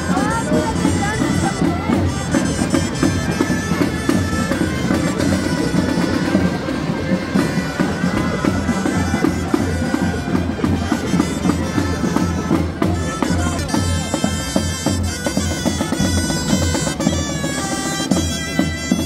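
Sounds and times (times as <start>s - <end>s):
reed pipes playing folk tune: 0.0s - 19.0s.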